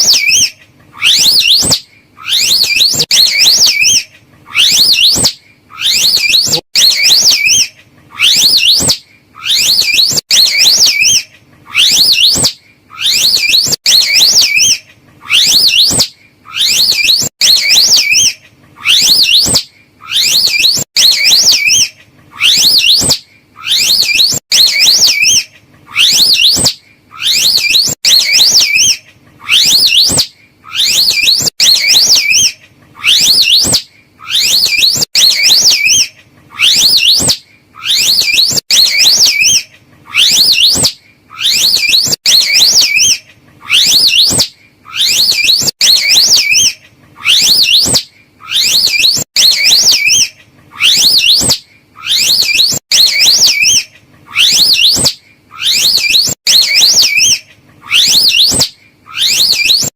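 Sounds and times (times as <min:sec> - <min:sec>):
high wavering whistle-like animal call: 0:00.0 - 0:59.9.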